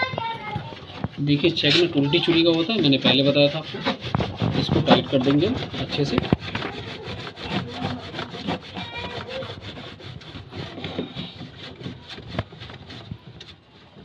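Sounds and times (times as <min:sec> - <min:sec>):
rubbing and scraping on plastic: 0:00.0 - 0:14.0.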